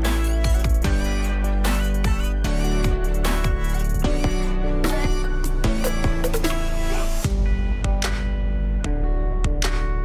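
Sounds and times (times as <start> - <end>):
held chords: 0.0 - 10.0.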